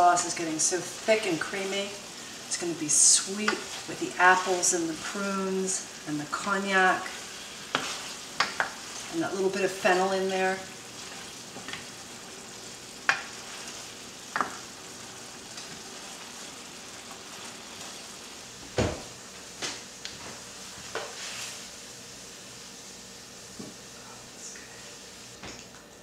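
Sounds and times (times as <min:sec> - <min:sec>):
sauce sizzling: 0:00.0 - 0:24.1, 0:24.8 - 0:25.4.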